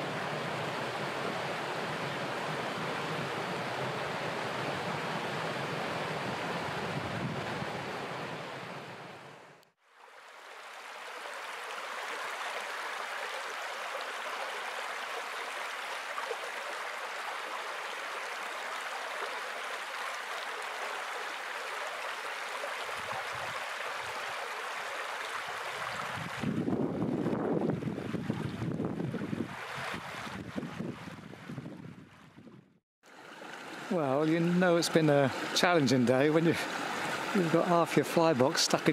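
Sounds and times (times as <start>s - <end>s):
stony stream rushing: 0.0s - 32.4s, 33.0s - 38.9s.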